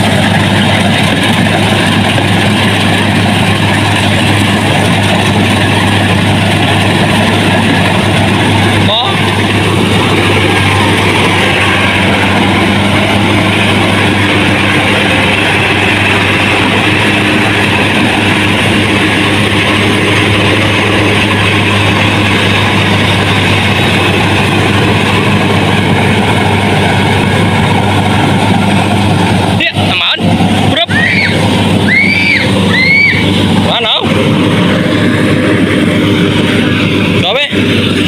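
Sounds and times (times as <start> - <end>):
machine engine droning: 0.0 - 38.0.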